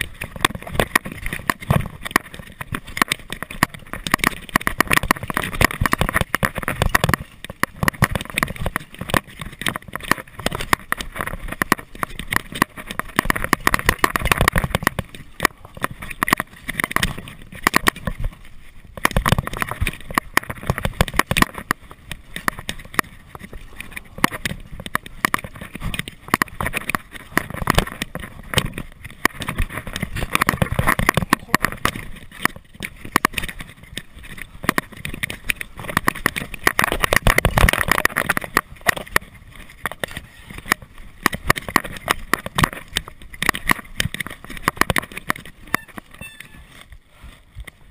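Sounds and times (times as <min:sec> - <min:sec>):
bike rattling and knocking: 0:00.0 - 0:46.7
tyres on dirt and gravel: 0:00.0 - 0:47.9.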